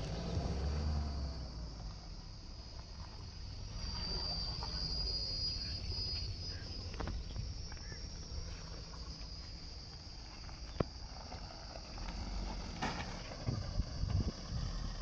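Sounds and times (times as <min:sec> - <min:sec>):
distant car engine rumble: 0:00.0 - 0:15.0
insects chirring: 0:00.0 - 0:15.0.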